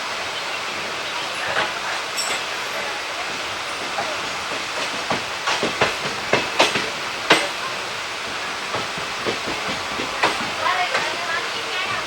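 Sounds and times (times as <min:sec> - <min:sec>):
train coach running rumble: 0:00.0 - 0:12.0
wheel clacks over track joints: 0:01.4 - 0:12.0.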